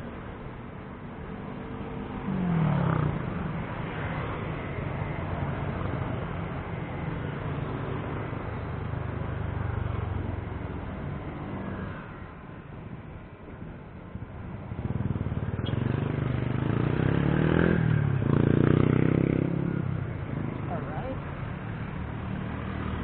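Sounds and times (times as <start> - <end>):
steady traffic rumble: 0.0 - 23.0
vehicle passing by: 1.2 - 12.2, 14.7 - 23.0.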